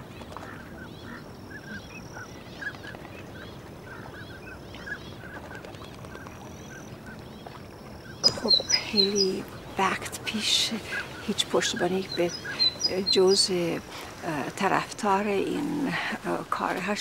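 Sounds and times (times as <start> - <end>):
ducks calling: 0.0 - 14.2
steady background hiss: 0.0 - 17.0.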